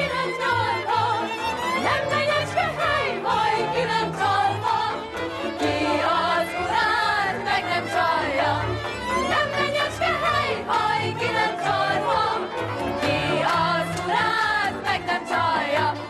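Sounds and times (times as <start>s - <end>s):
orchestral accompaniment: 0.0s - 16.0s
women's chorus singing: 0.0s - 16.0s.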